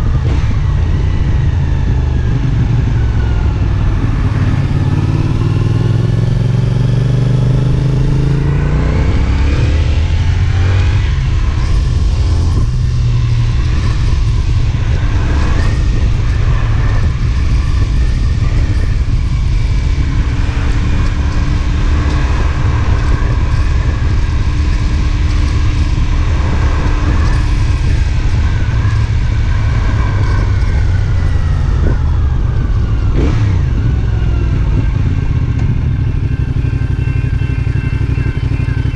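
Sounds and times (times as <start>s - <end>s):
low wind noise: 0.0s - 38.9s
motorcycle engine pulling hard: 0.0s - 38.9s.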